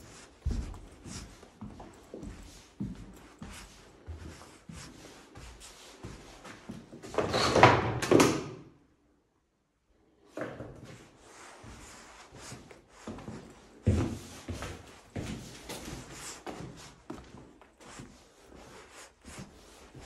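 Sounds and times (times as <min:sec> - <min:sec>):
footsteps on bare floor: 0:00.0 - 0:07.3, 0:10.4 - 0:20.0.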